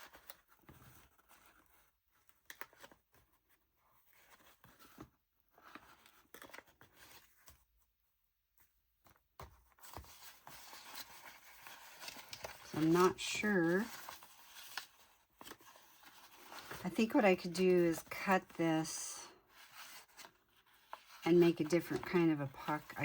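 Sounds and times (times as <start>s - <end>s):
paper pages rustling: 0.0s - 7.7s, 9.0s - 18.9s, 19.5s - 23.0s.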